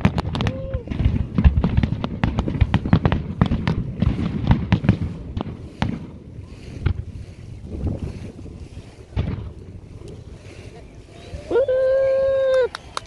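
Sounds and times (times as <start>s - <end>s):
fireworks bangs and crackles: 0.0s - 10.8s.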